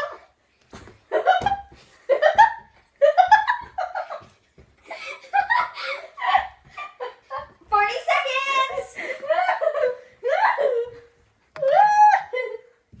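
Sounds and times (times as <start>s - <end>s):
girls laughing: 1.1s - 7.7s, 8.5s - 12.9s.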